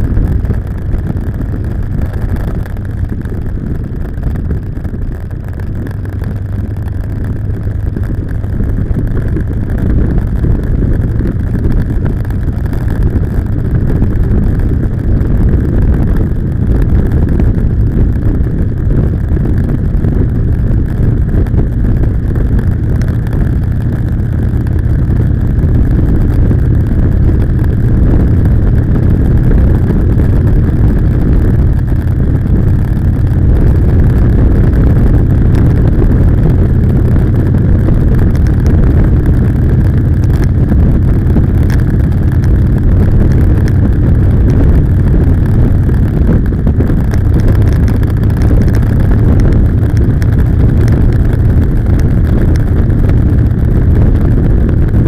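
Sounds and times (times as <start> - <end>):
motorcycle engine running: 0.0 - 55.0
wind on microphone: 0.0 - 55.0.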